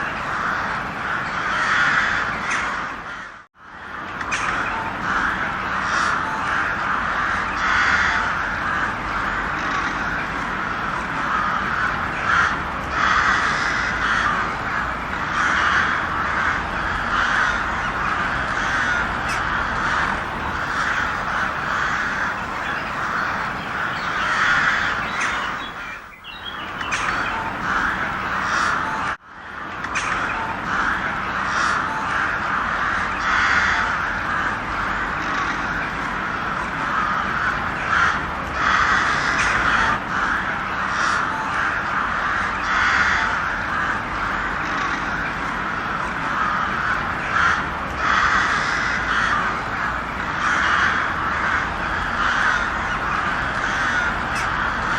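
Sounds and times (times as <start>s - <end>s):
crows cawing: 0.0s - 54.9s.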